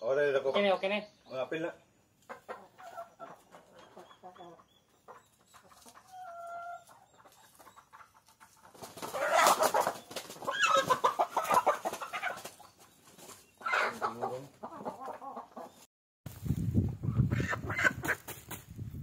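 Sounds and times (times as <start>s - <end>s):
chickens clucking and squawking: 0.0s - 15.9s, 16.8s - 18.6s.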